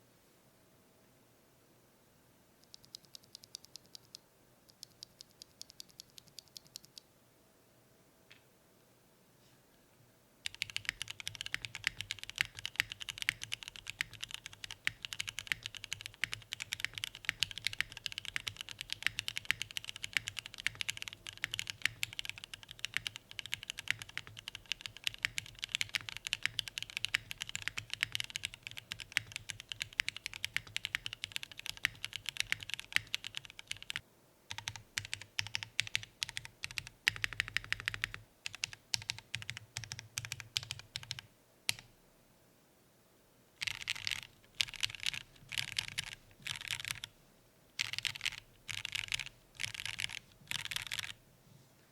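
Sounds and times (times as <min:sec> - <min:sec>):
typing on mechanical keyboard: 0:02.6 - 0:07.0, 0:10.4 - 0:41.9, 0:43.6 - 0:47.1, 0:47.8 - 0:51.2.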